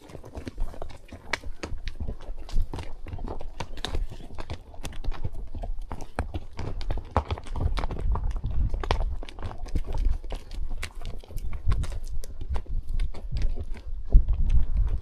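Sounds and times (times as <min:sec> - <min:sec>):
horse hooves clopping: 0:00.0 - 0:15.0.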